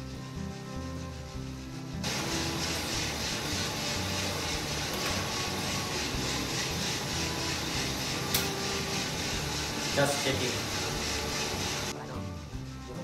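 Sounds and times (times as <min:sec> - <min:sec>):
coffee roaster fan whooshing: 0:00.0 - 0:13.0.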